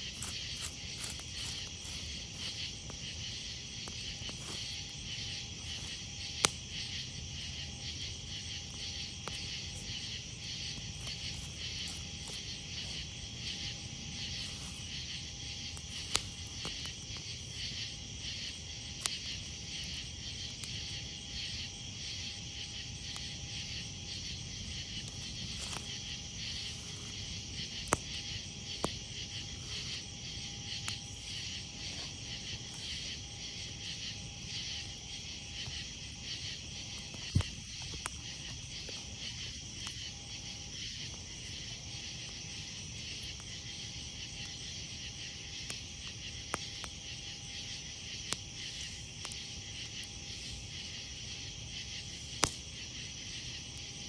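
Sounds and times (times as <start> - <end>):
burning wood popping: 0.0 - 53.6
campfire crackling: 0.0 - 54.0
crickets chirping: 0.0 - 54.0.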